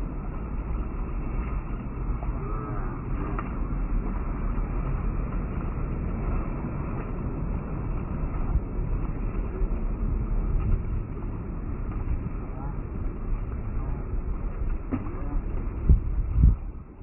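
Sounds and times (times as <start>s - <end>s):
wind buffeting the microphone: 0.0s - 17.0s.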